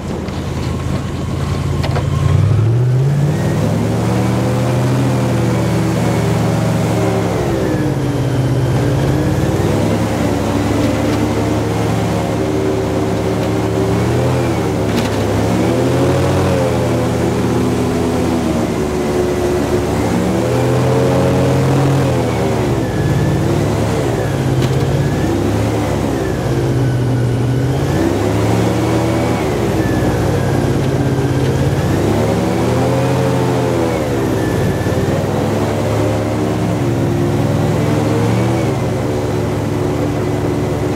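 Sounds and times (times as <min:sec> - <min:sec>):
airboat engine and propeller: 0:00.0 - 0:40.9.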